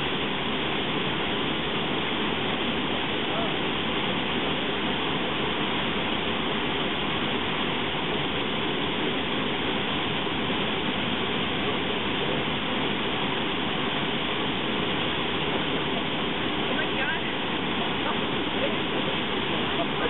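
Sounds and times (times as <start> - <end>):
river water roaring at waterfall: 0.0 - 20.0.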